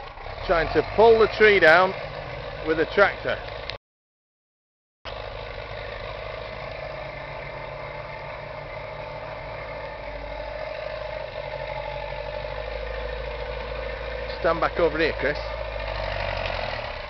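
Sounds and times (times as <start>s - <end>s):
tractor engine running: 0.0s - 3.8s, 5.1s - 17.0s.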